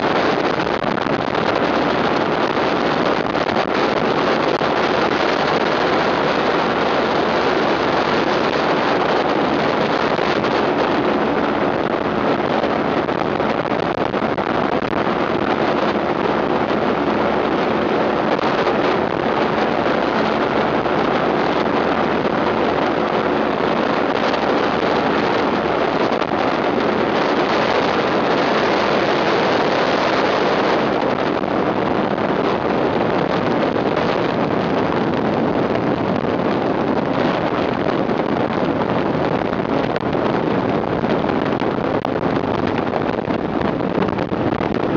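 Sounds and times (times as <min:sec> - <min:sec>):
ultralight aircraft engine: 0:00.0 - 0:44.9
wind noise on microphone: 0:00.0 - 0:44.9.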